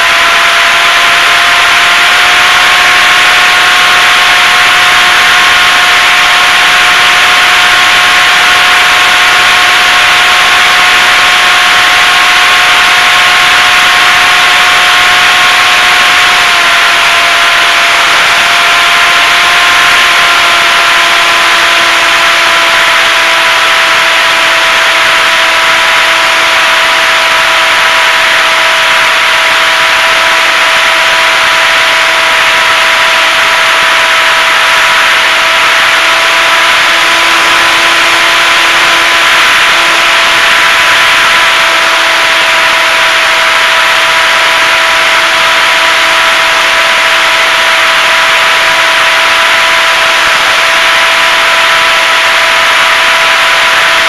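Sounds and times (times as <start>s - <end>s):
electric motor and propeller whine: 0.0s - 54.0s.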